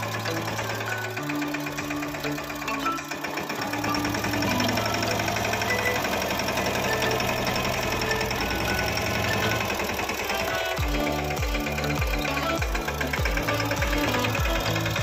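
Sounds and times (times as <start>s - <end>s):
diesel tractor engine clattering: 0.0s - 15.0s.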